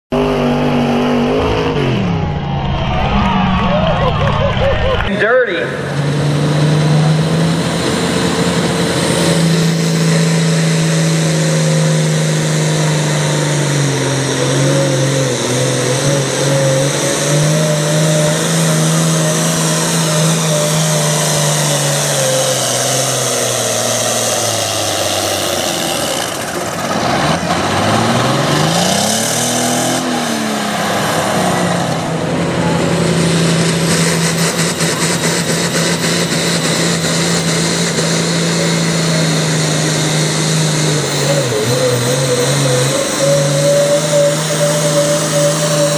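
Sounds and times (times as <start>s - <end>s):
tractor engine at full throttle: 0.0s - 45.9s.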